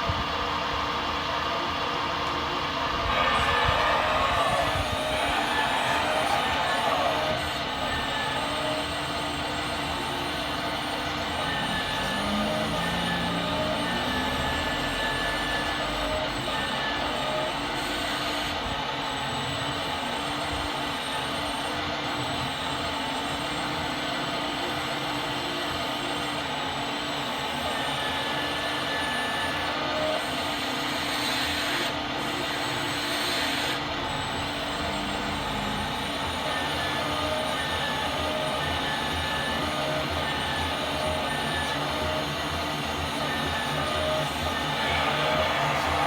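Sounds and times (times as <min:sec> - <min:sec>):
hydraulic pump whirring: 0:00.0 - 0:46.0.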